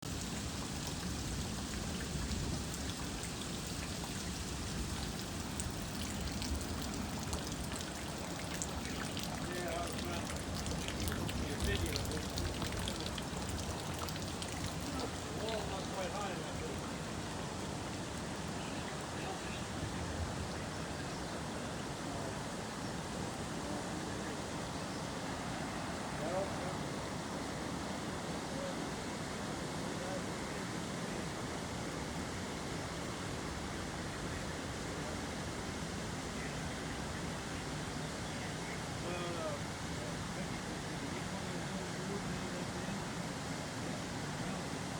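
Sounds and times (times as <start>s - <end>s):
water rushing and spattering: 0.0s - 44.9s.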